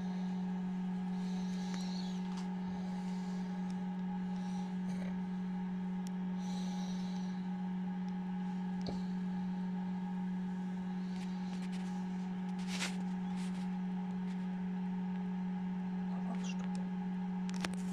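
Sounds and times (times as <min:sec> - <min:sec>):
incubator humming: 0:00.0 - 0:17.9.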